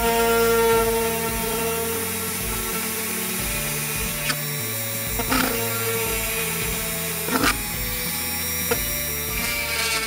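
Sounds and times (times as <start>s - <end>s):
background music: 0.0s - 10.0s
rotary tool cutting plastic: 0.0s - 10.0s.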